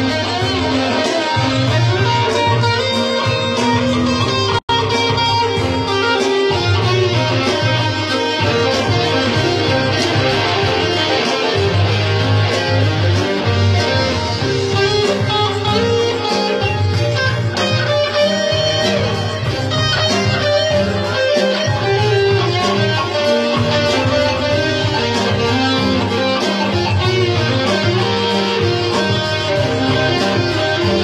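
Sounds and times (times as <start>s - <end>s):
bass line: 0.0s - 31.0s
electric guitar: 0.0s - 31.0s.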